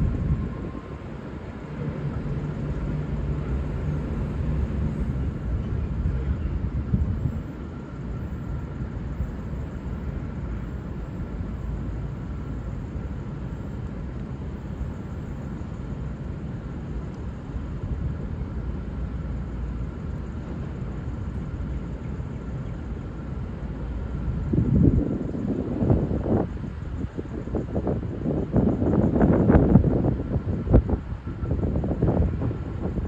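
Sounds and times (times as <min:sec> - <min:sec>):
diesel railcar rumbling: 0:00.0 - 0:33.0.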